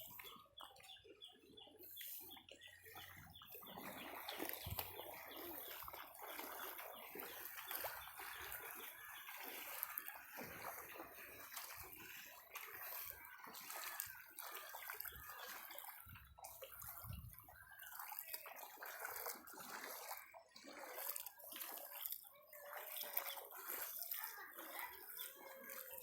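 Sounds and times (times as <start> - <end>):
floodwater flowing and trickling: 0.0 - 26.0.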